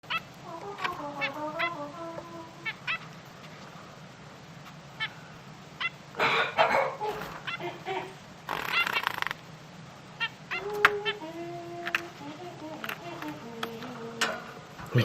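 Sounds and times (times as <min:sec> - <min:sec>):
finches chirping: 0:00.0 - 0:03.5, 0:04.6 - 0:09.4, 0:10.1 - 0:14.0.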